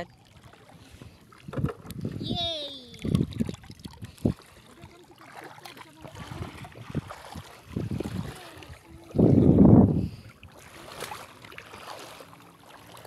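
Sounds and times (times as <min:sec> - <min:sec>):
legs sloshing through seawater: 0:00.0 - 0:01.5, 0:02.8 - 0:13.0.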